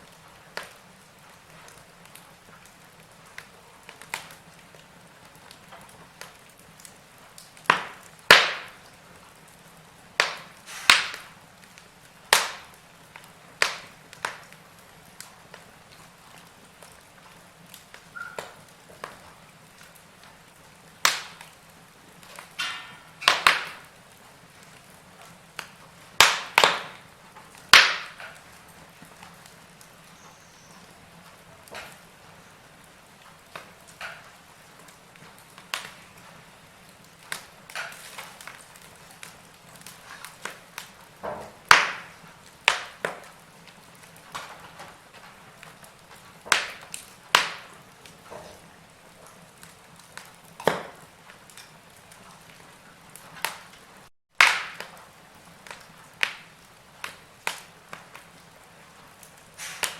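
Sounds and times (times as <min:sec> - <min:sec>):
logs crackling and popping: 0:00.0 - 0:59.9.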